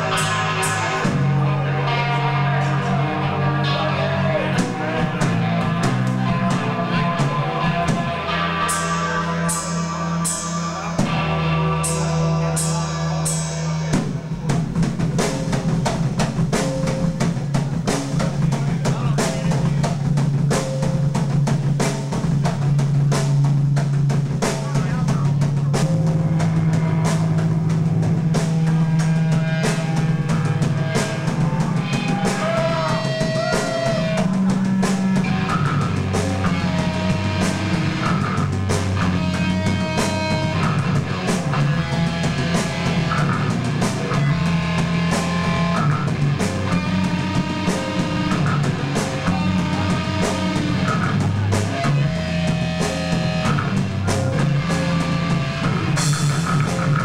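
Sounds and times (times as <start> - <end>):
metal band playing: 0.0 - 57.0
rock drum kit: 0.0 - 57.0.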